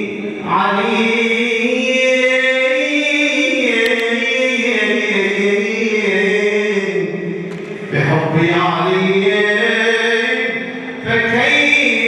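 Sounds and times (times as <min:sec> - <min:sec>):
man chanting a religious song: 0:00.0 - 0:12.0.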